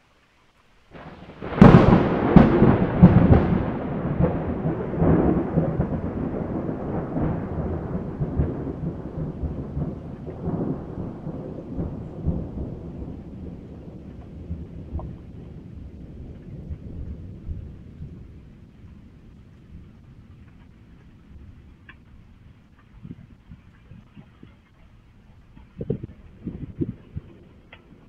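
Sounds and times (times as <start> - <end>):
rain: 0.0 - 28.0
thunder cracks and rumble: 1.0 - 24.5, 25.5 - 28.0.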